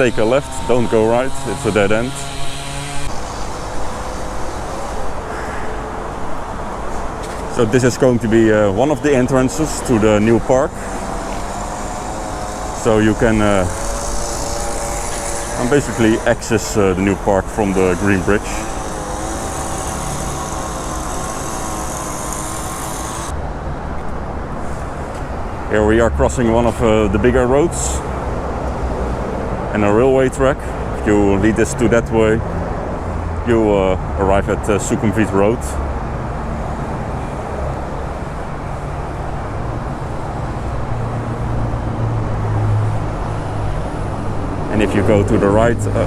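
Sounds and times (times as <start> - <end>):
road traffic noise: 0.0 - 46.0
vehicle engine hum: 0.0 - 46.0.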